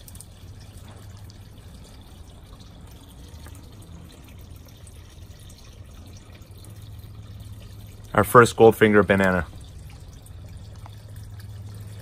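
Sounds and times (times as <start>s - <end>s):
trickle of running water: 0.0s - 12.0s.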